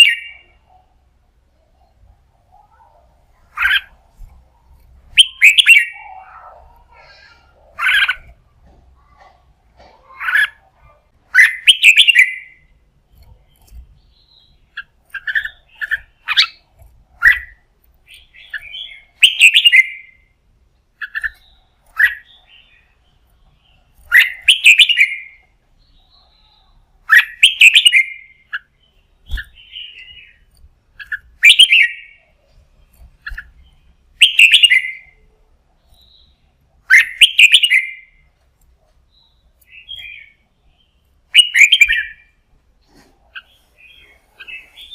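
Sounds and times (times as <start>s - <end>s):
bulbul singing: 0.0s - 9.3s, 10.0s - 42.5s.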